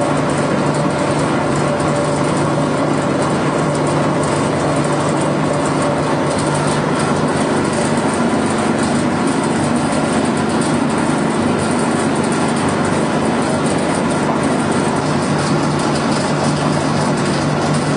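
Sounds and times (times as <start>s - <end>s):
pellet machine motor hum: 0.0s - 17.9s.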